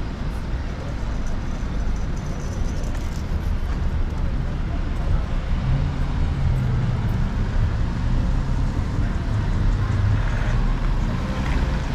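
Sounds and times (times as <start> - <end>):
cars passing: 0.0 - 11.9.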